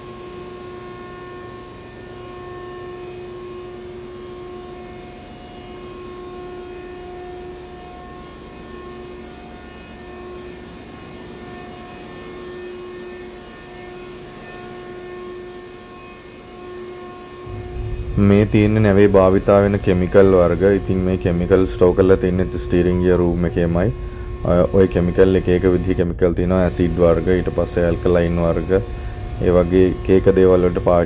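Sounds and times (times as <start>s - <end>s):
engine-room machinery drone: 0.0s - 31.0s
whining tones: 0.0s - 31.0s.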